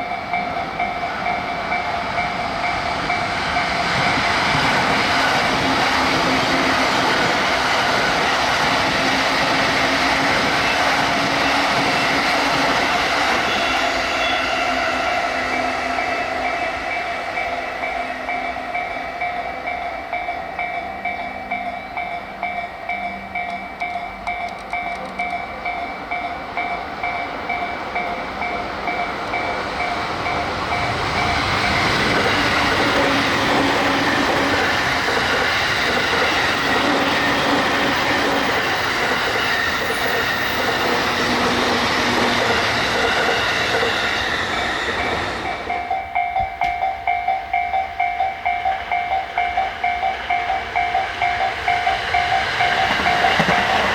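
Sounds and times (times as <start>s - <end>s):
level-crossing bell clanging: 0.0s - 53.9s
train rumble and wheel clatter: 0.0s - 53.9s.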